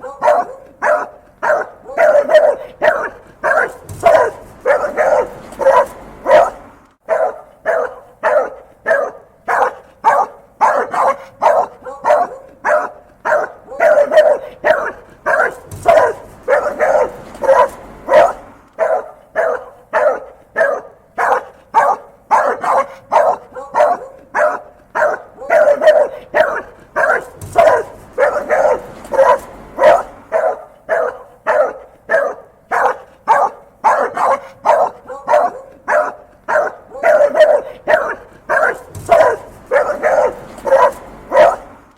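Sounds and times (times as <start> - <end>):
dog barking angrily: 0.0 - 41.9.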